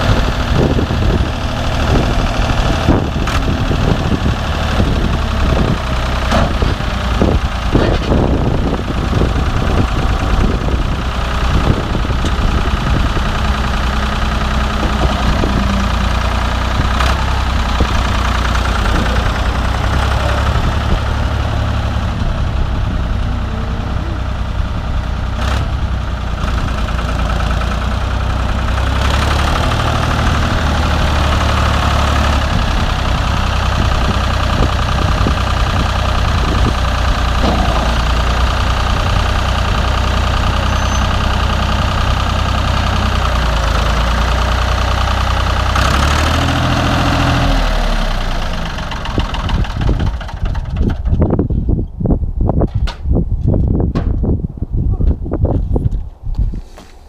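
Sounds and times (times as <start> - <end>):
backhoe loader engine running: 0.0 - 54.5.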